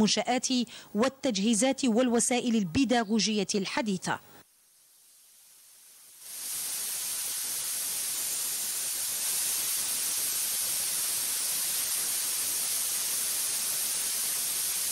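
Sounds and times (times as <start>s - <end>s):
static-like hiss: 0.0s - 14.9s.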